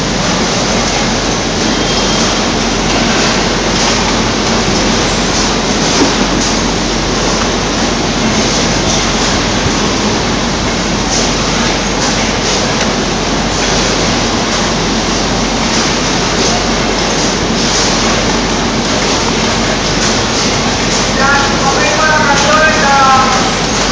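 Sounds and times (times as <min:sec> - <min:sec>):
sorting machinery din: 0:00.0 - 0:23.9.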